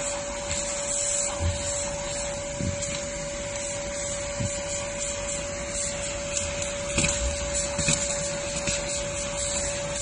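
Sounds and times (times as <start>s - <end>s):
handheld vacuum cleaner running: 0.0s - 10.0s.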